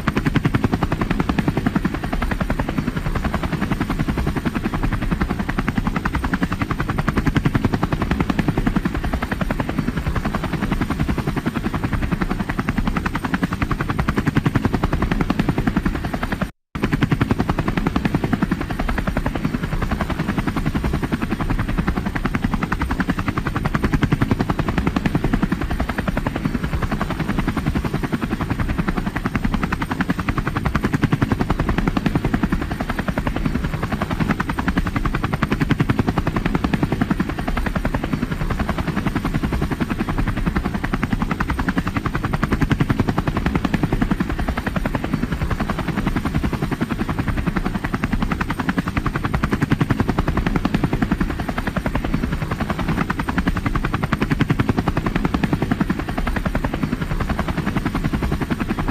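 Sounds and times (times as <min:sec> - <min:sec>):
helicopter rotor blades chopping: 0:00.0 - 0:58.9.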